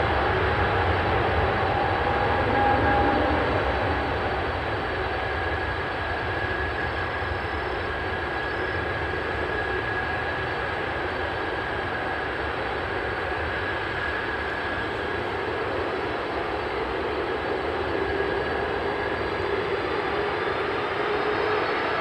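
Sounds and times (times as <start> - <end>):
jet engine roar with whine: 0.0 - 22.0.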